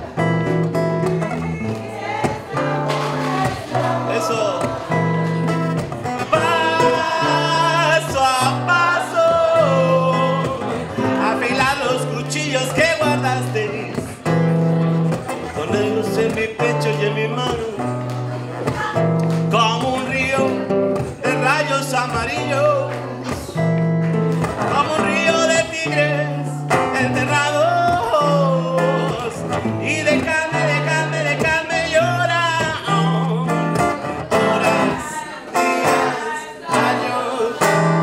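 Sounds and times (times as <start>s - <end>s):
strummed acoustic guitar: 0.0s - 38.0s
man singing: 1.0s - 23.7s, 24.4s - 38.0s.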